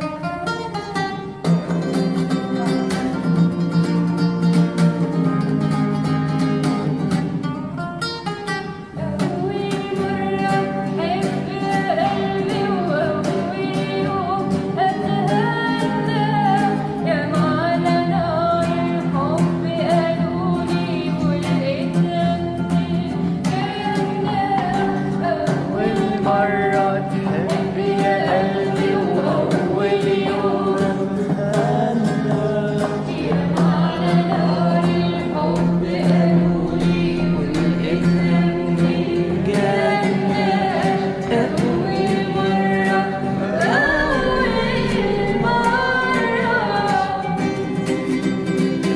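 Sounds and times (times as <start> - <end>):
strummed acoustic guitar: 0.0 - 48.9
person singing: 9.0 - 48.9.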